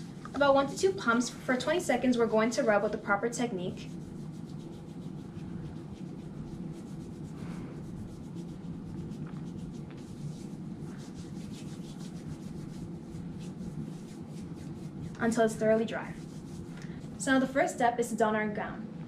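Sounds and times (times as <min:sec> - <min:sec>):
hands rubbing together: 0:00.0 - 0:17.2
steady low hum: 0:00.0 - 0:19.0.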